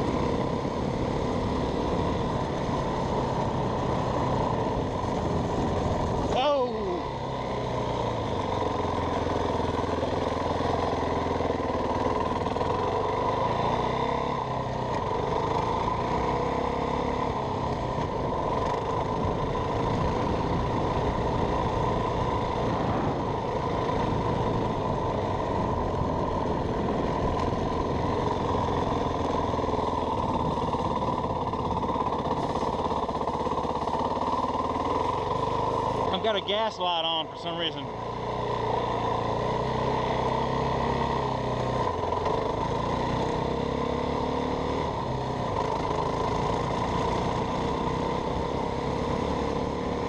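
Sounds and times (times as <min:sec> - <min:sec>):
dirt bike engine running: 0:00.0 - 0:50.0.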